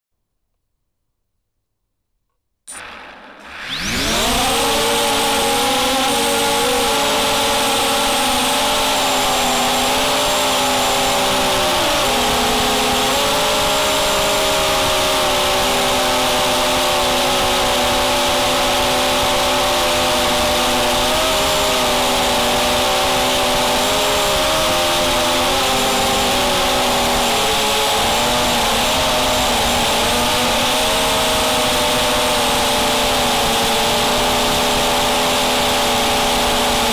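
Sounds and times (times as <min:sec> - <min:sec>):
quadcopter motors whining: 0:02.7 - 0:36.9.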